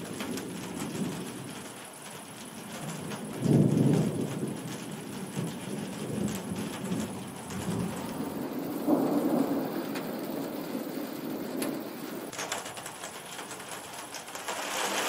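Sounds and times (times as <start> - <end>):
rolling thunder: 0.0 - 12.3
steady rain: 0.0 - 15.0.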